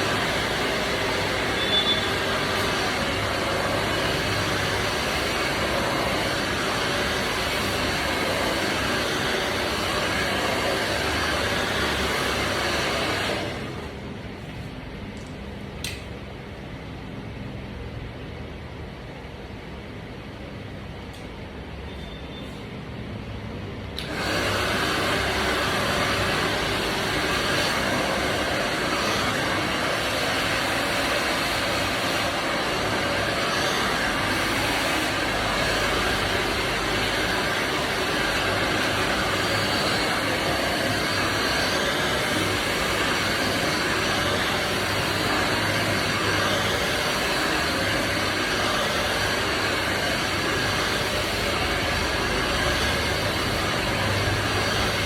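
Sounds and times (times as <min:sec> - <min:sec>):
hair dryer running: 0:00.0 - 0:14.4, 0:23.8 - 0:55.0.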